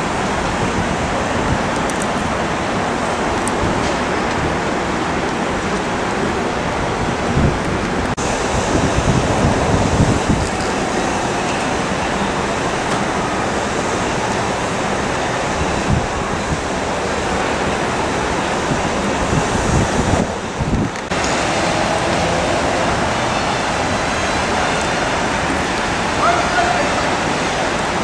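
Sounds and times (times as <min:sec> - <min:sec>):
wind buffeting microphone: 0:00.0 - 0:26.2
distant jet engine noise: 0:00.0 - 0:28.0.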